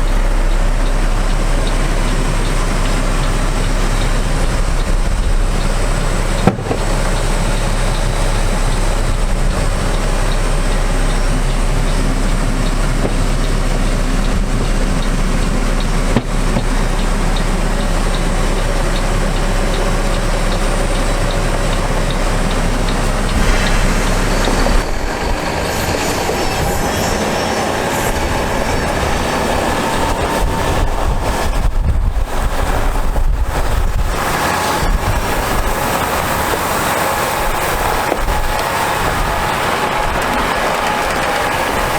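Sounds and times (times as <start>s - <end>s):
diesel truck engine rumbling: 0.0s - 41.9s.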